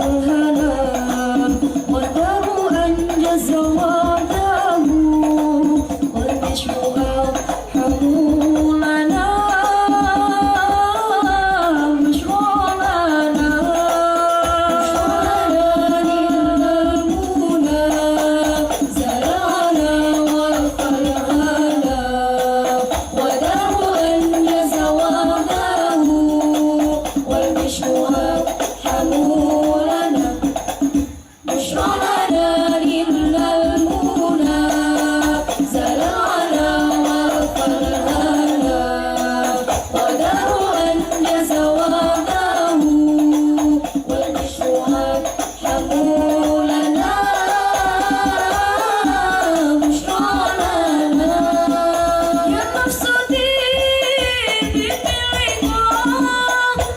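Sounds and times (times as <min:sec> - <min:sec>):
frame drums: 0:00.0 - 0:56.9
voices singing: 0:00.0 - 0:56.9.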